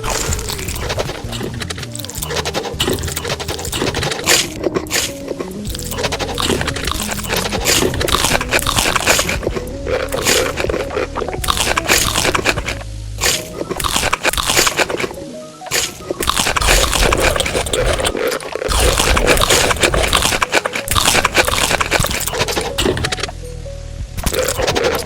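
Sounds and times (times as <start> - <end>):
crunchy food being chewed: 0.0 - 23.4, 24.2 - 25.0
background music: 0.0 - 25.0.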